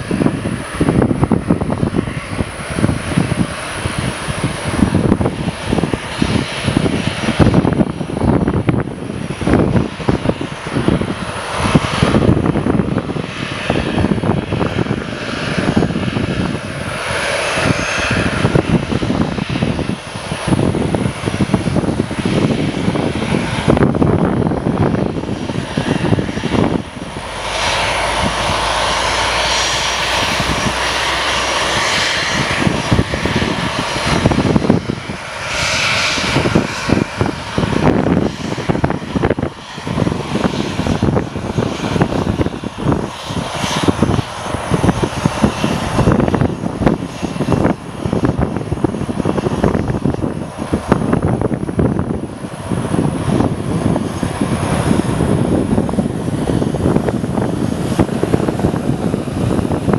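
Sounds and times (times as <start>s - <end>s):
jet engines of taxiing airliner: 0.0s - 59.9s.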